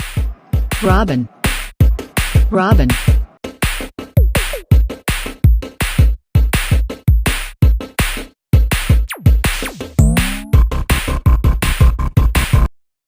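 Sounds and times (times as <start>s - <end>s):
electronic music with drum-machine beat: 0.0s - 12.7s.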